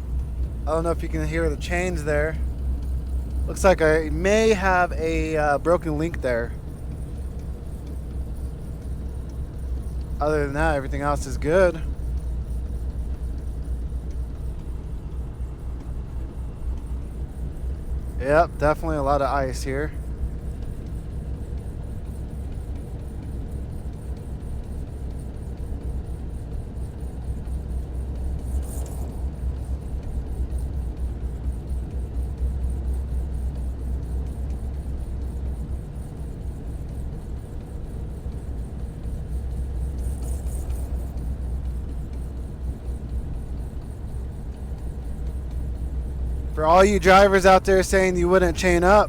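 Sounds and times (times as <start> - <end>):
truck engine and road rumble: 0.0 - 24.2, 27.2 - 49.0.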